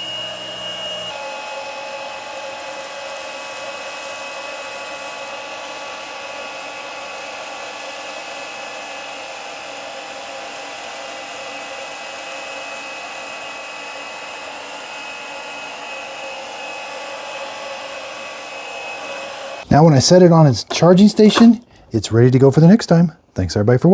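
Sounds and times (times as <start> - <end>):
vacuum cleaner running: 0.0 - 19.9, 20.6 - 21.6.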